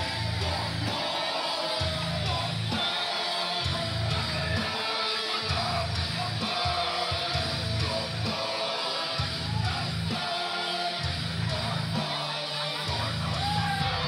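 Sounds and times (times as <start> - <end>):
electric guitar: 0.0 - 14.0
person singing: 0.0 - 14.0
rock music: 0.0 - 14.0.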